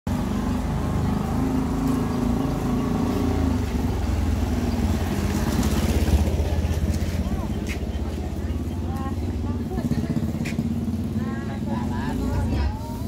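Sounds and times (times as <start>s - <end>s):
street traffic hum: 0.0s - 13.0s
motorcycle engine running: 0.1s - 13.0s.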